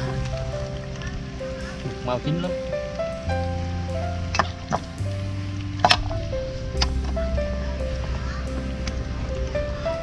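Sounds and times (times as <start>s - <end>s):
bass line: 0.0s - 10.0s
held synth notes: 0.0s - 10.0s.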